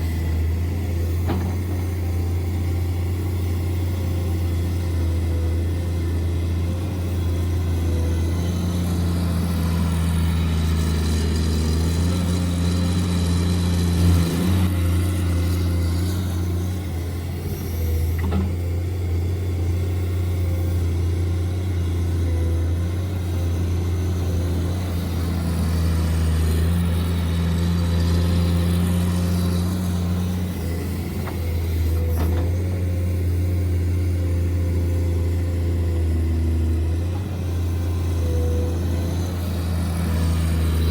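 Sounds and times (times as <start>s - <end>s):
low engine-like hum: 0.0s - 40.9s.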